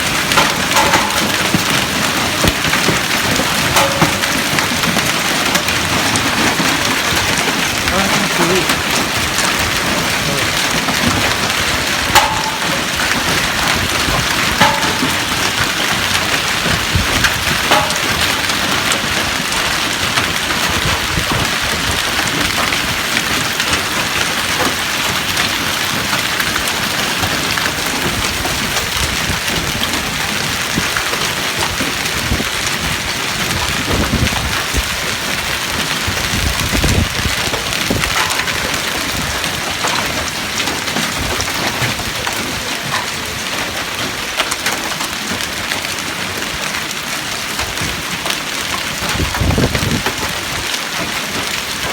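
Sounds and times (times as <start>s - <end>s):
hail pattering: 0.0s - 51.9s.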